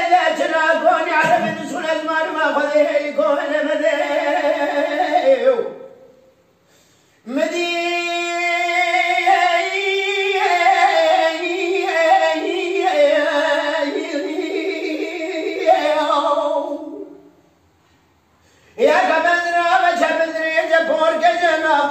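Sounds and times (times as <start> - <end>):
man singing unaccompanied: 0.0 - 6.2, 7.2 - 17.3, 18.8 - 21.9.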